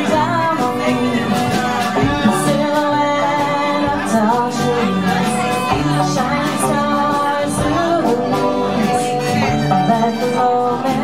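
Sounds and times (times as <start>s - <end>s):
live band playing: 0.0s - 11.0s
woman singing: 0.0s - 11.0s.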